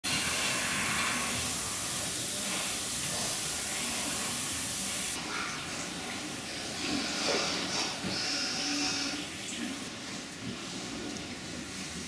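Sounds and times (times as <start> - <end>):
steady hissing noise: 0.1 - 12.0.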